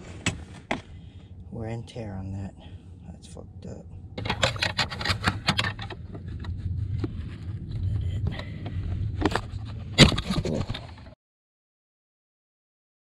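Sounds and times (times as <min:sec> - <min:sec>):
car engine rumbling: 0:00.0 - 0:11.2.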